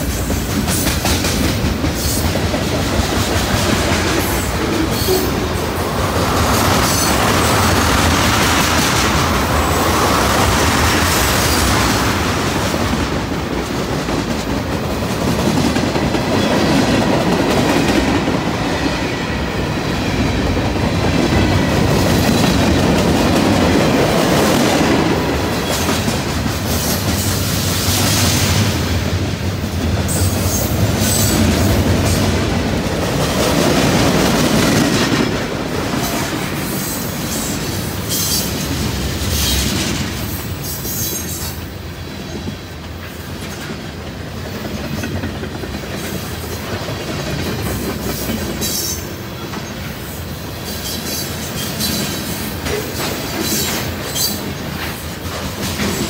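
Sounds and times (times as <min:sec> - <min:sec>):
freight train wheels clickety-clack: 0:00.0 - 0:56.0.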